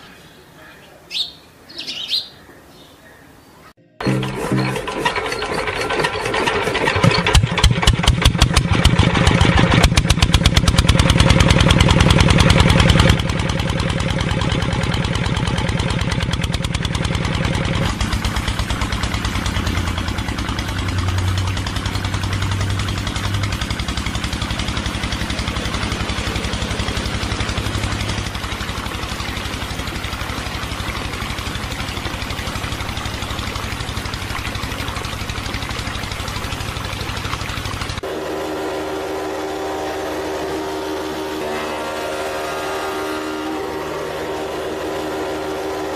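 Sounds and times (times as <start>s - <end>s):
diesel engine chugging: 4.0s - 45.9s.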